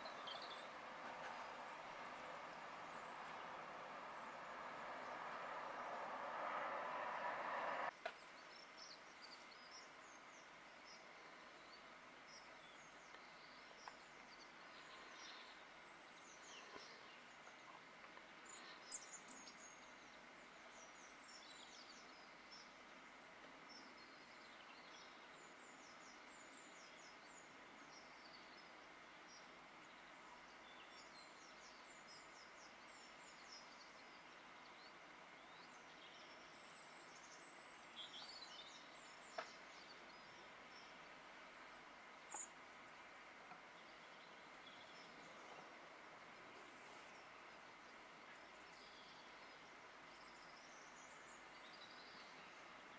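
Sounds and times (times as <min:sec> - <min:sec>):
faint background noise: 0:00.0 - 0:52.9
small birds chirping: 0:00.0 - 0:52.9.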